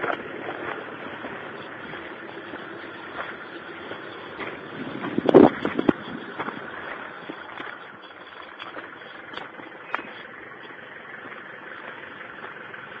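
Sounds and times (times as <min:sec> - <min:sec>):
off-road engine running: 0:00.0 - 0:13.0.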